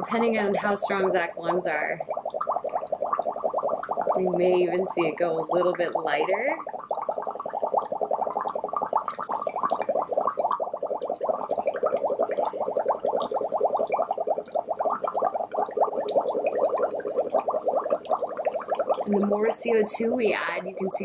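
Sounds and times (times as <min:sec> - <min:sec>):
bubbling through a straw: 0:00.0 - 0:21.0.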